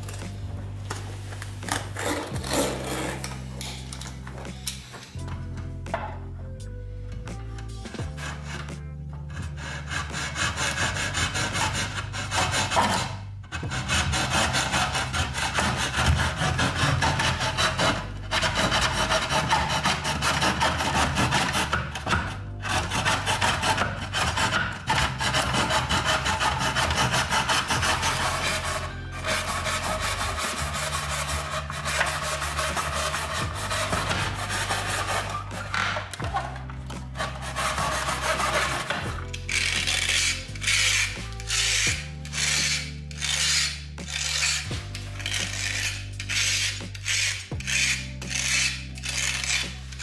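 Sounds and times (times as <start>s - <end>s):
background music with bass line: 0.0s - 50.0s
hand saw rasping: 7.8s - 50.0s.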